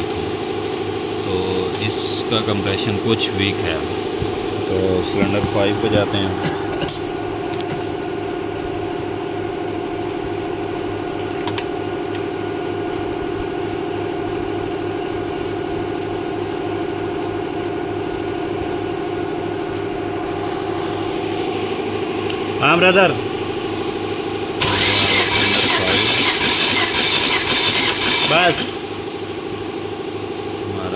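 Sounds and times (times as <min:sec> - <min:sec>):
machine droning with low throb: 0:00.0 - 0:10.9, 0:15.2 - 0:30.9.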